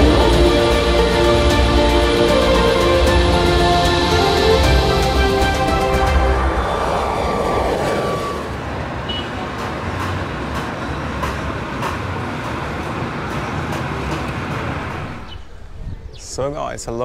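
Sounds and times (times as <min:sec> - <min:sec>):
distant vehicle rumble: 0:00.0 - 0:16.4.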